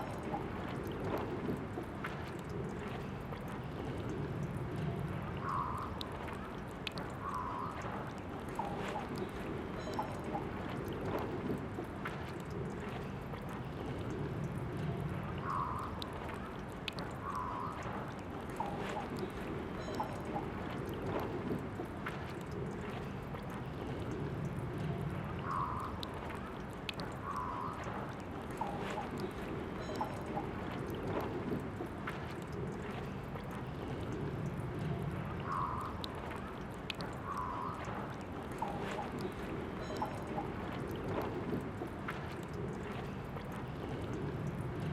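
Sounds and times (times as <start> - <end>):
water trickling from a tap: 0.0 - 44.9.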